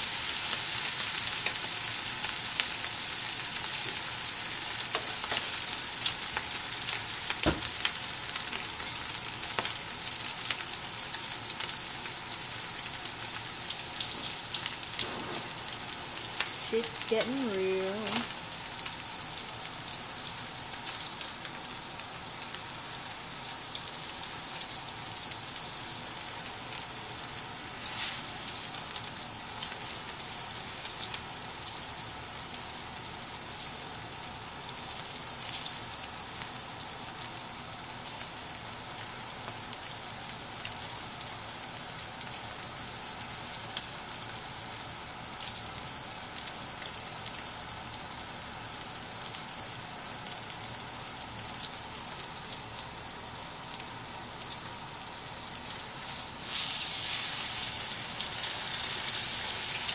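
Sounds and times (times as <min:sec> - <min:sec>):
steak sizzling in skillet: 0:00.0 - 0:59.9.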